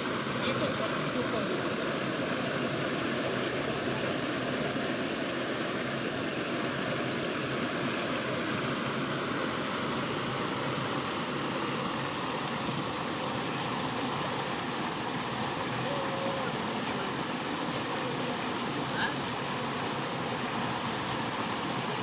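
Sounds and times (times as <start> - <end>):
fast-flowing water rushing: 0.0 - 22.0.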